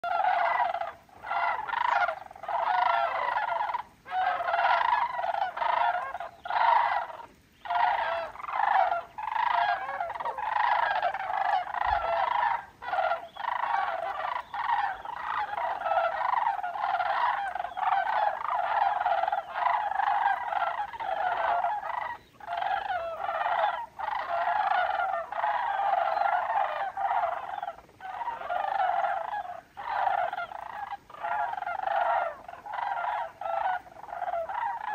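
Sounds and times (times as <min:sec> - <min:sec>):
cranes calling in flight: 0:00.0 - 0:34.9.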